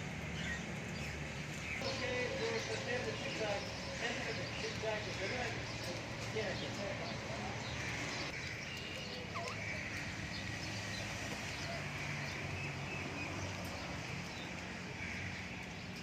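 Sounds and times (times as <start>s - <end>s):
aviary hum and hiss: 0.0s - 15.8s.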